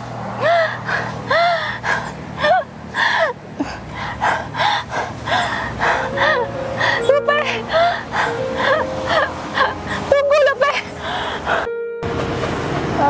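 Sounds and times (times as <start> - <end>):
woman gasping: 0.4 - 10.1, 10.8 - 11.7
woman sobbing: 0.4 - 11.7.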